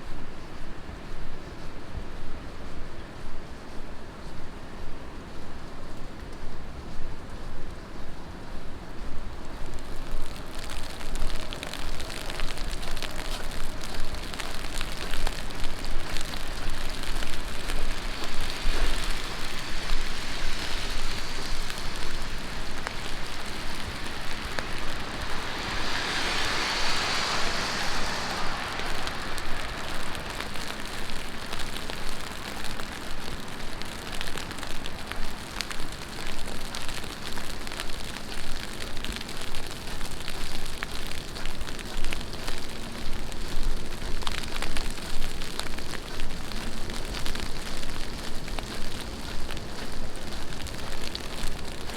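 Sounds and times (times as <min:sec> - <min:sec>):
heavy rain on street: 0:00.0 - 0:51.9
brighter hiss: 0:08.9 - 0:51.9.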